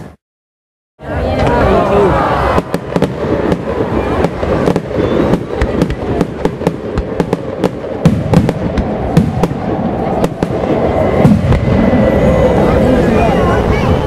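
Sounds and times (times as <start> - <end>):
fireworks bangs and crackles: 1.1 - 14.0.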